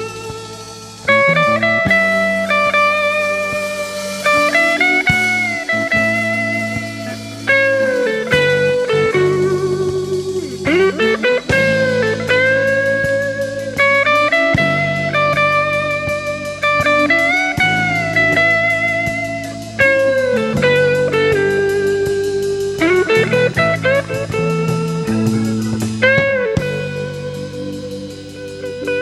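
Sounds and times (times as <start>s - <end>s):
bass: 0.0s - 29.0s
blues guitar solo: 0.0s - 29.0s
drums keeping a beat: 0.0s - 29.0s.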